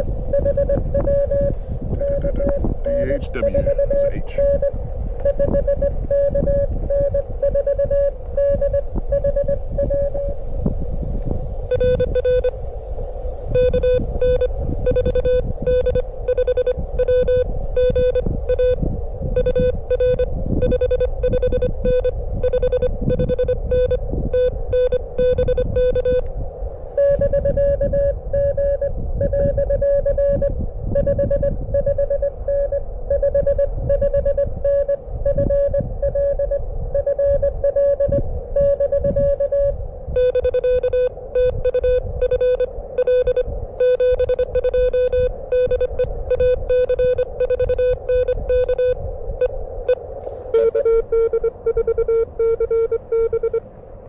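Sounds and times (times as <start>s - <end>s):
morse code tones: 0.0s - 10.4s, 11.7s - 12.6s, 13.5s - 18.8s, 19.4s - 26.3s, 27.0s - 53.6s
wind rumble on microphone: 0.0s - 54.0s.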